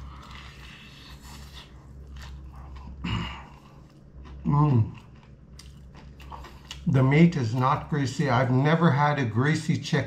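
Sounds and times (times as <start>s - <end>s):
chewing crispy fried chicken: 0.0s - 8.8s.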